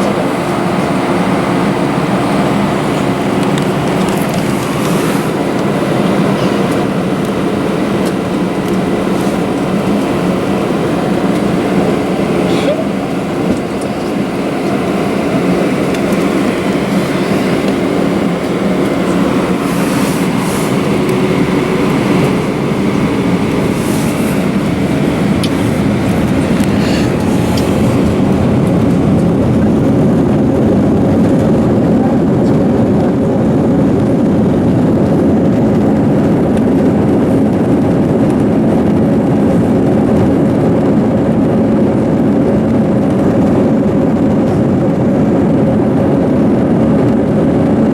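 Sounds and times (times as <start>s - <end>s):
jet engine noise: 0.0s - 47.9s
wheels rumbling over pavement: 0.0s - 47.9s.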